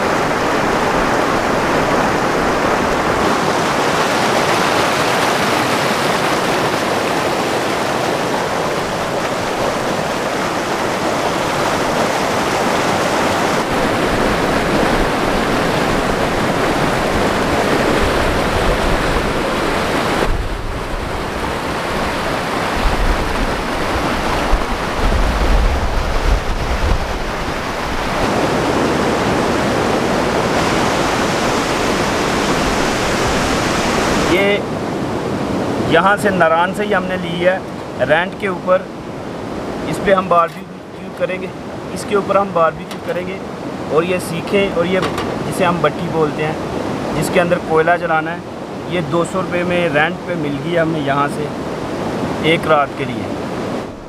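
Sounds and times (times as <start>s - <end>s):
mountain stream rushing over rocks: 0.0s - 54.0s.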